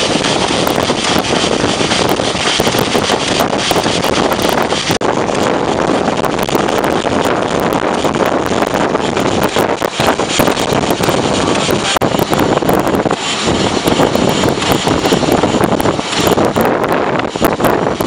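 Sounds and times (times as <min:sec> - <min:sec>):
sharp clicks and rattles: 0:00.0 - 0:18.0
train rumbling: 0:00.0 - 0:18.0
wind buffeting microphone: 0:00.0 - 0:18.0.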